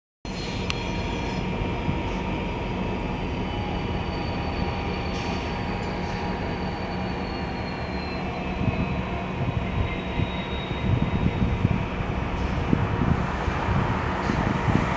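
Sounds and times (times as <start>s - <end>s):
diesel locomotive drone: 0.3s - 14.9s.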